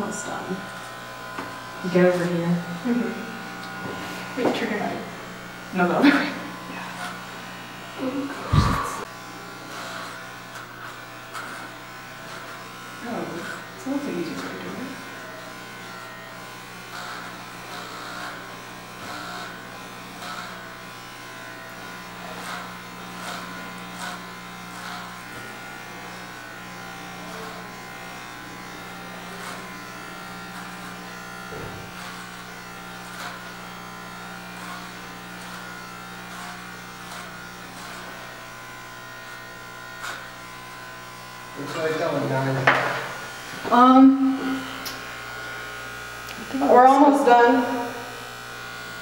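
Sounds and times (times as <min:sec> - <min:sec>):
electric hair clippers buzzing: 0:00.0 - 0:49.0.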